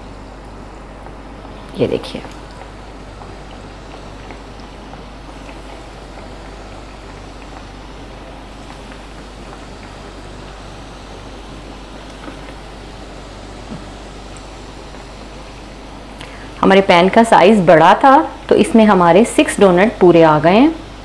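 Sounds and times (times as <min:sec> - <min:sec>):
oil sizzling in frying pan: 0:00.0 - 0:21.0.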